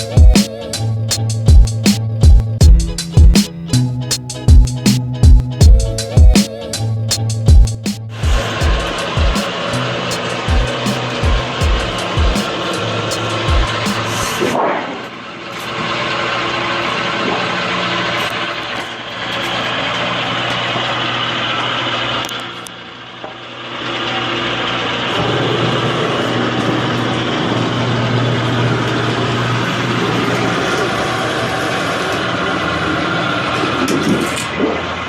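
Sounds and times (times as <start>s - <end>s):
motor droning: 0.0s - 35.0s.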